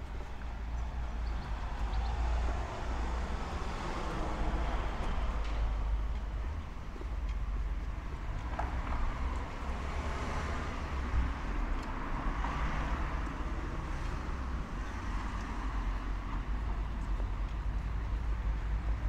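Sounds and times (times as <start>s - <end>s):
car passing: 0.0s - 18.4s.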